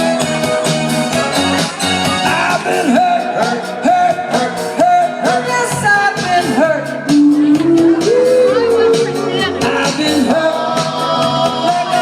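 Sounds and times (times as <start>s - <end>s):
steady beat: 0.0s - 12.0s
person singing doo-wop: 2.2s - 12.0s.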